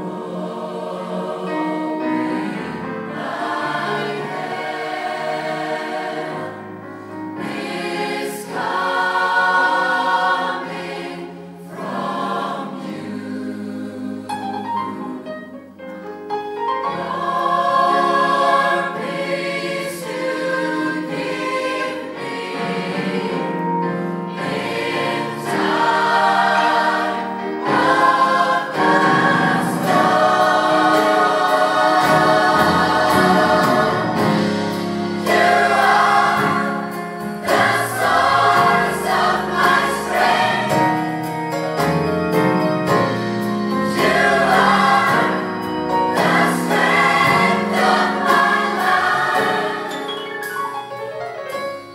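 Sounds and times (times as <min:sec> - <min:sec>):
choir singing in harmony: 0:00.0 - 0:51.9.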